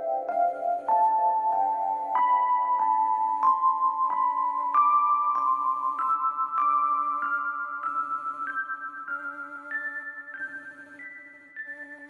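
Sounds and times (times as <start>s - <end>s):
gentle bell-like melody: 0.0s - 12.0s.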